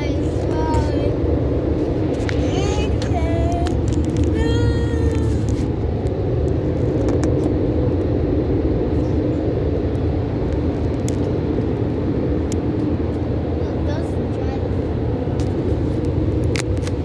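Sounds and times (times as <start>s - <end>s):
road rumble inside car: 0.0s - 17.0s.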